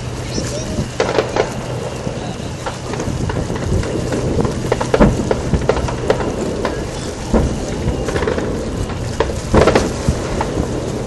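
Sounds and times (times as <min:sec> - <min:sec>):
fireworks booming and popping: 0:00.0 - 0:11.0
steady noisy background: 0:00.0 - 0:11.0.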